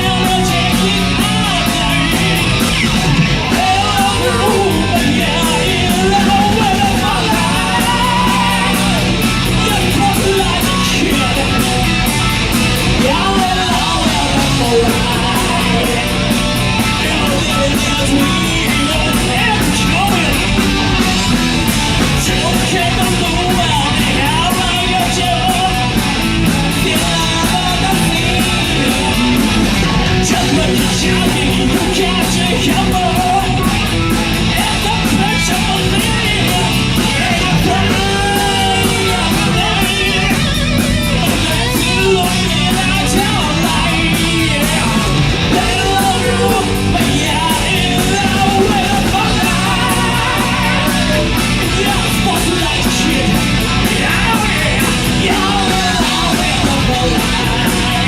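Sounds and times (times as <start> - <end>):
hard rock band playing live: 0.0 - 58.0
person singing: 0.0 - 58.0.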